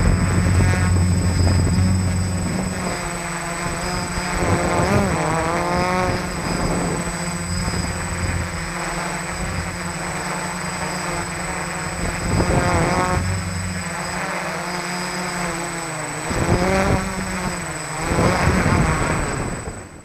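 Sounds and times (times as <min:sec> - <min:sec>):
drone motors spinning propellers: 0:00.0 - 0:20.0.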